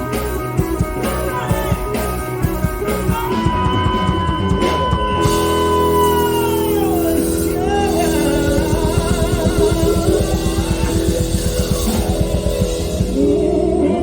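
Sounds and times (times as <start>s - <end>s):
electric guitar bending notes: 0.0s - 14.0s
hard rock music: 0.0s - 14.0s.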